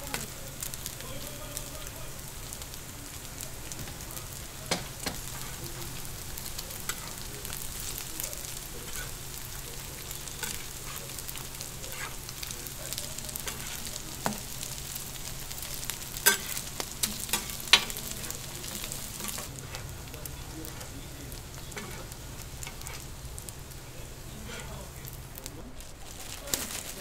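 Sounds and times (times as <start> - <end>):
patties sizzling on griddle: 0.0 - 27.0.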